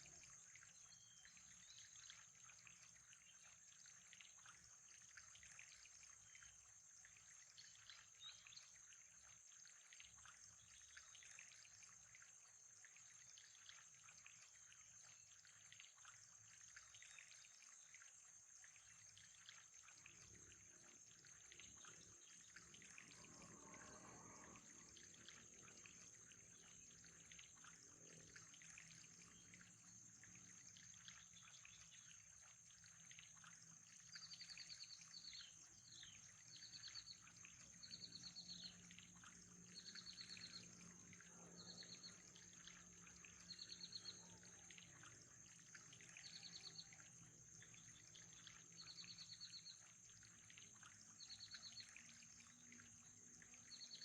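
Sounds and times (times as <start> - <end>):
faint trickling water: 0.0 - 54.0.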